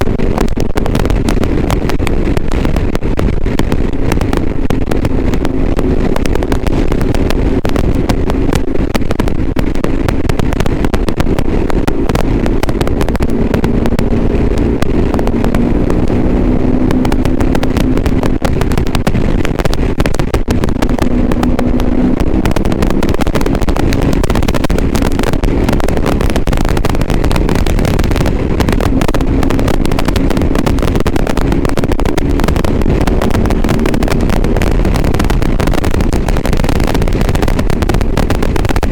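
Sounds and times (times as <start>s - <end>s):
distorted crackle: 0.0s - 38.9s
motorcycle engine running: 0.0s - 38.9s.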